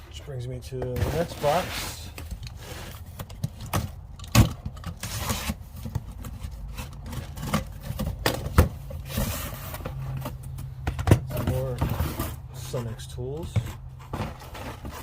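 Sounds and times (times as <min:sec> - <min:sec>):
tools and packaging handled: 0:00.8 - 0:15.0.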